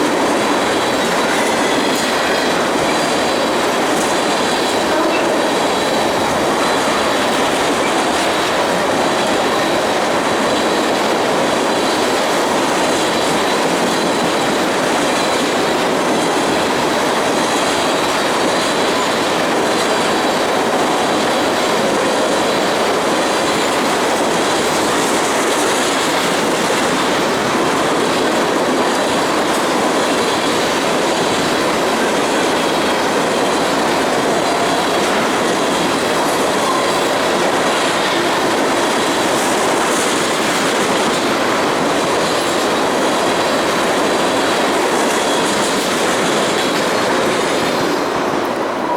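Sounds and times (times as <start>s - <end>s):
faint high wheel squeal: 0.0s - 10.8s, 16.4s - 48.9s
freight train wheels rumbling and rattling: 0.0s - 48.9s.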